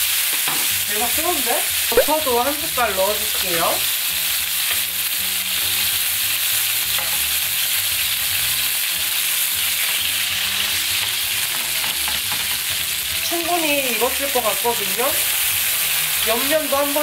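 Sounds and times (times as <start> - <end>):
steaks sizzling in a hot pan: 0.0 - 17.0.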